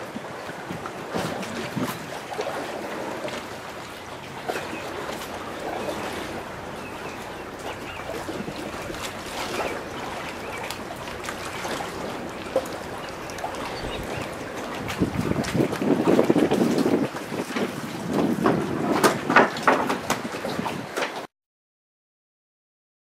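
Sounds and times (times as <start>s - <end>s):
water lapping against boat: 0.0s - 21.3s.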